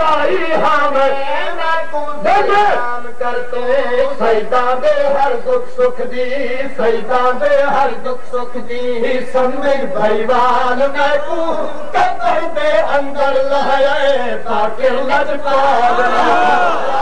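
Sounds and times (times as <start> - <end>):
man chanting melodic recitation: 0.0 - 16.4.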